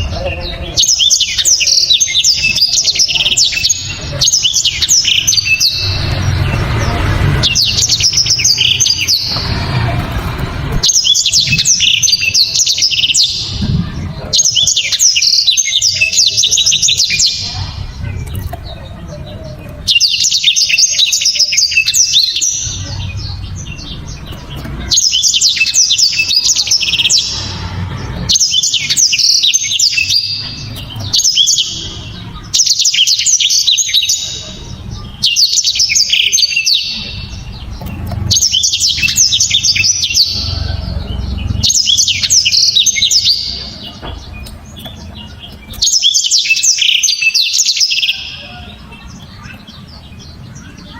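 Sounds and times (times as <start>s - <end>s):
canary twittering song: 0.0s - 50.9s.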